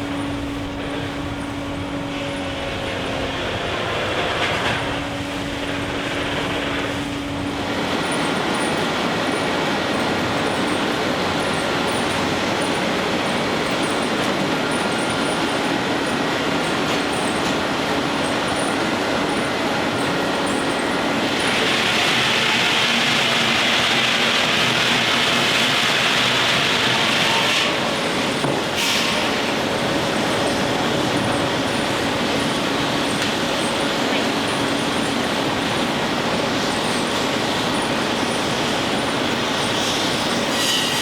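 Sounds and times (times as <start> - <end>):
sawmill machinery running: 0.0 - 41.0
steam hissing: 7.7 - 40.9.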